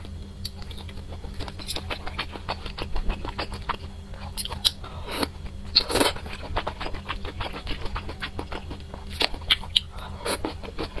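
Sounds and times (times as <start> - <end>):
chewing: 0.4 - 11.0.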